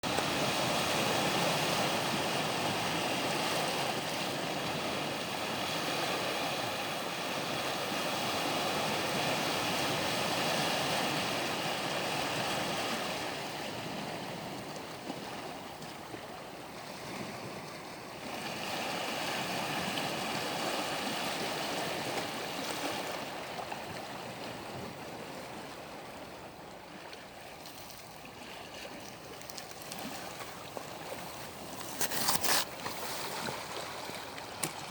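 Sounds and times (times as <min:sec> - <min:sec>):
sea waves breaking: 0:00.0 - 0:34.9.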